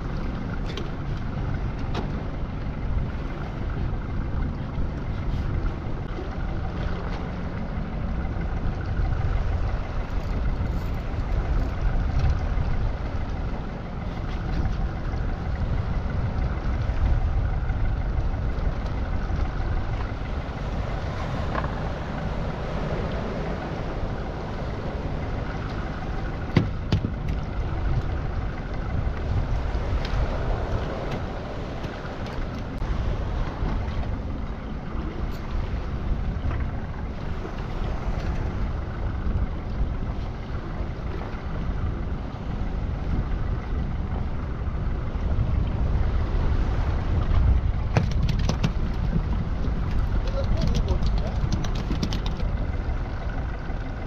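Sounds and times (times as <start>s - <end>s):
boat engine rumble: 0.0s - 54.0s
water noise: 0.0s - 54.0s
wind: 0.0s - 54.0s.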